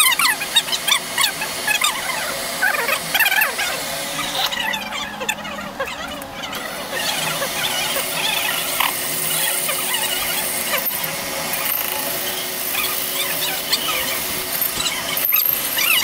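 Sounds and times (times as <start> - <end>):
cutting tool squealing on metal: 0.0 - 16.0
lathe humming: 0.0 - 16.0.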